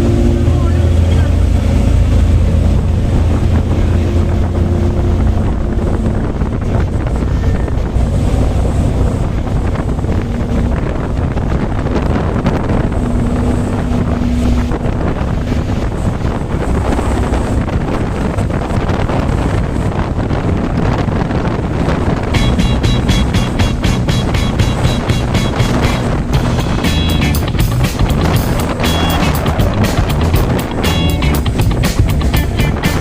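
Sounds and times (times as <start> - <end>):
ferry engine drone: 0.0 - 33.0
wind buffeting microphone: 0.0 - 33.0.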